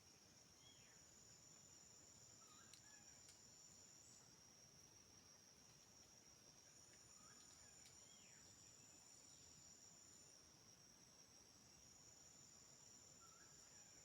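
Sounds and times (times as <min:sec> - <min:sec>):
insects trilling: 0:00.6 - 0:04.6, 0:05.2 - 0:14.0.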